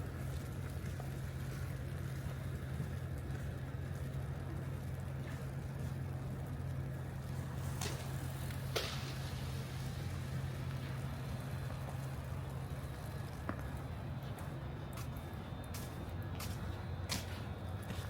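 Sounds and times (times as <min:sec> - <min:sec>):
street traffic drone: 0:00.0 - 0:18.0.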